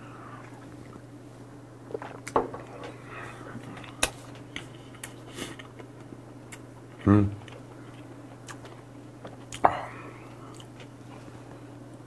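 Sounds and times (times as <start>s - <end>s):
steady low hum: 0.0s - 12.0s
soft chewing: 2.0s - 12.0s.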